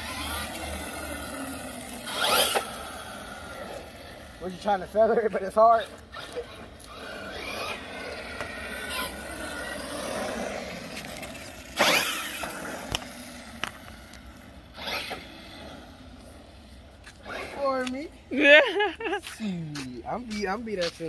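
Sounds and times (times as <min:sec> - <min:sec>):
rc car electric motor whining: 0:00.0 - 0:04.9, 0:05.8 - 0:17.8.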